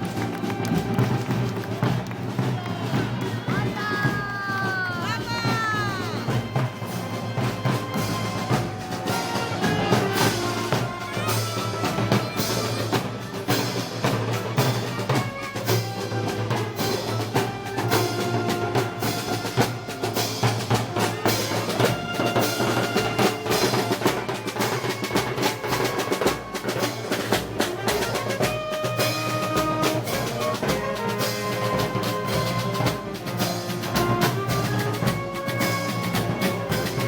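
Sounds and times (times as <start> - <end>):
drums beating: 0.0 - 37.0
wind instruments holding notes: 0.0 - 37.0.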